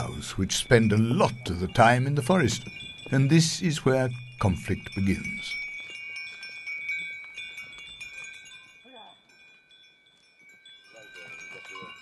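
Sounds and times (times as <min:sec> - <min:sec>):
cattle bells clanking: 0:00.0 - 0:12.0.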